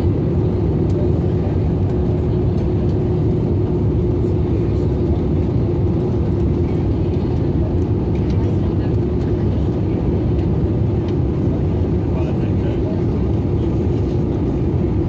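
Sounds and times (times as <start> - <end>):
aircraft cabin engine rush: 0.0 - 15.0
constant hum: 0.0 - 15.0.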